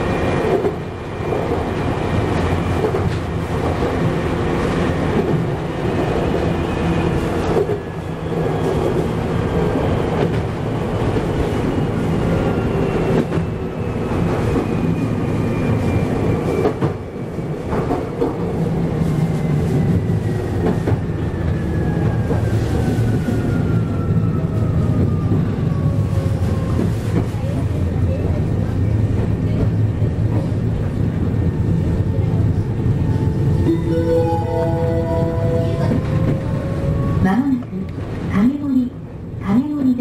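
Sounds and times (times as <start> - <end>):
electric train rumble and hum: 0.0 - 40.0.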